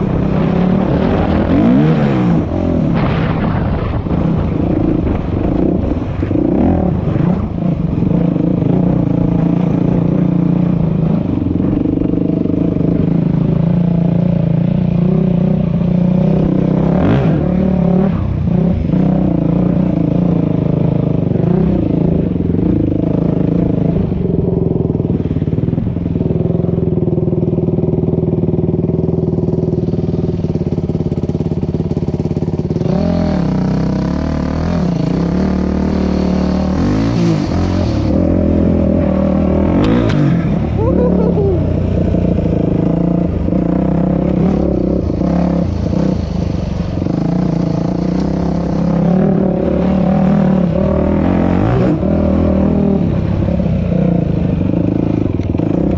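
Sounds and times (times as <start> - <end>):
dirt bike engine running: 0.0 - 55.9.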